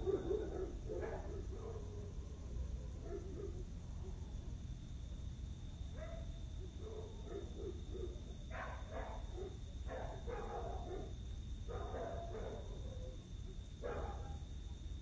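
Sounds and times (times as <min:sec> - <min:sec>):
dog barking: 0:00.0 - 0:04.2, 0:06.0 - 0:14.5
steady low hum: 0:00.0 - 0:15.0.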